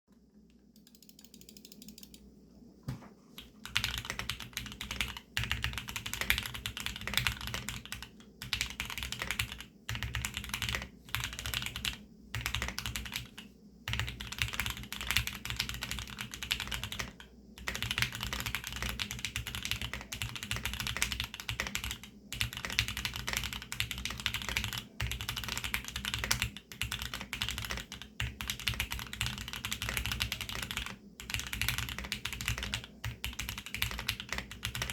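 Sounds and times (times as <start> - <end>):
fast typing on a keyboard: 3.6 - 34.9.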